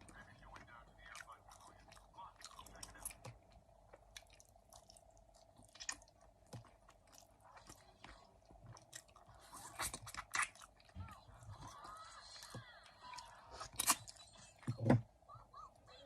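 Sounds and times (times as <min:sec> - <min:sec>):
mouth chewing meat: 0:00.0 - 0:14.4
faint steady hum: 0:00.0 - 0:16.0.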